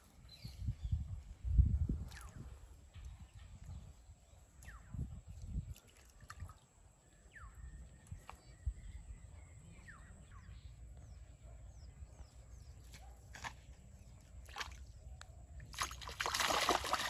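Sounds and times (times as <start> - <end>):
faint whistled birdsong: 0.0 - 1.6, 2.2 - 5.7, 7.0 - 15.7.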